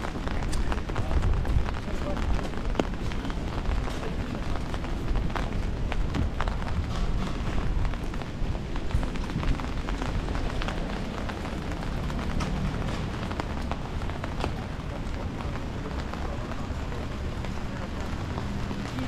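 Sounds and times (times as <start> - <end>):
raindrop ticks: 0.0 - 19.0
steady rain on street: 0.0 - 19.0.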